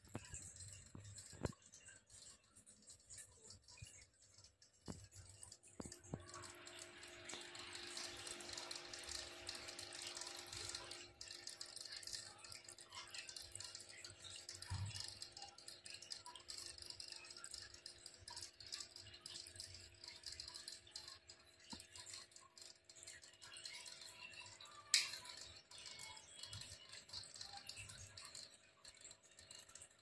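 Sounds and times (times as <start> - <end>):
low pump hum: 0.0 - 30.0.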